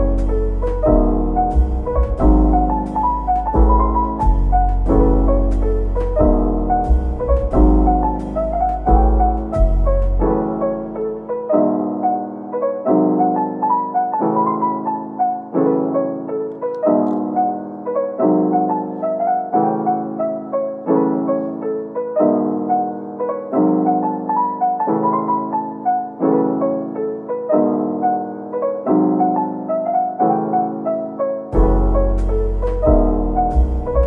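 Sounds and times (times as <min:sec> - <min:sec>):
soft piano music: 0:00.0 - 0:34.0.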